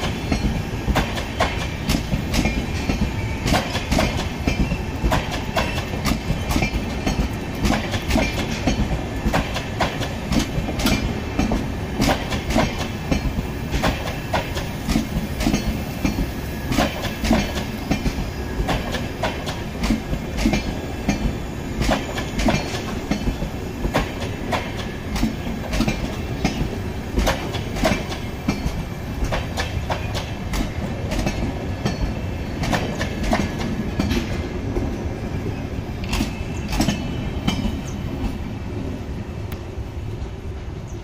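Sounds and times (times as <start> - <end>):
train wheels clattering over rails: 0.0 - 38.6.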